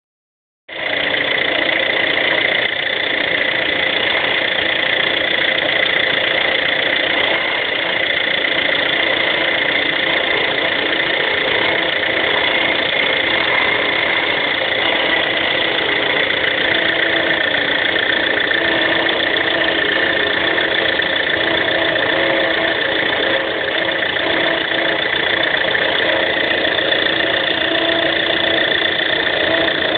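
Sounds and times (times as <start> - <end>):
engine running steadily: 0.7 - 29.9
high steady engine tones: 0.7 - 29.9.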